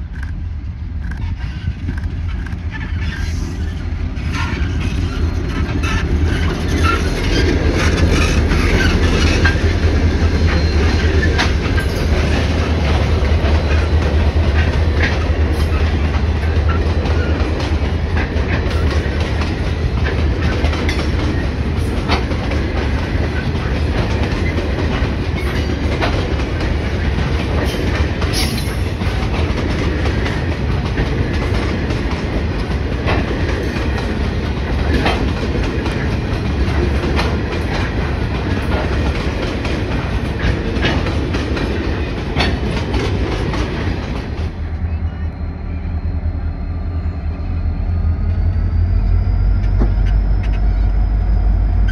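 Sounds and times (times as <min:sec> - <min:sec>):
locomotive engine rumble: 0:00.0 - 0:51.9.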